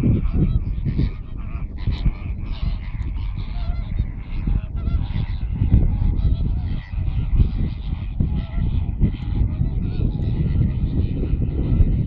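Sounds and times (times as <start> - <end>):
flamingos honking: 0.0 - 12.0
wind rumbling on microphone: 0.0 - 12.0.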